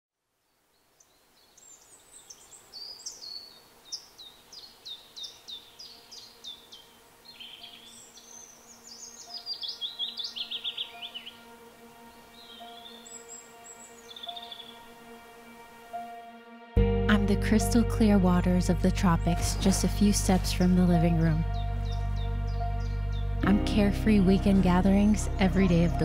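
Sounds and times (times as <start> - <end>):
songbird singing: 0.3 - 16.4, 17.1 - 26.0.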